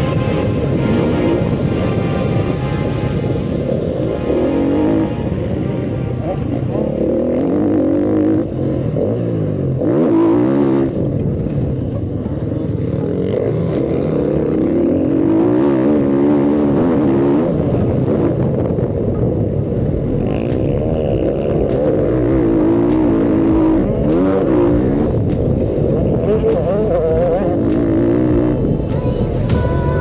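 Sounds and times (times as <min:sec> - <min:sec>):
motocross bike engine revving: 0:00.0 - 0:30.0.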